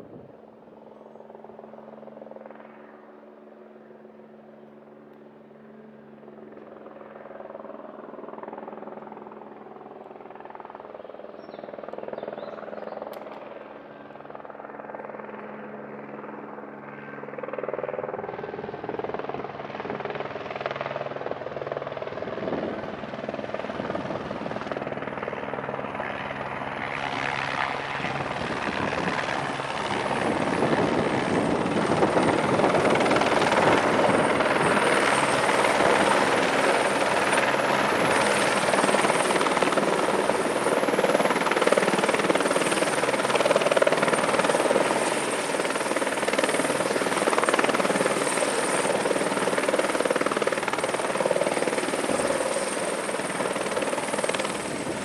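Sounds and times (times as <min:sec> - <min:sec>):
helicopter rotor beat and engine: 0:00.0 - 0:55.0.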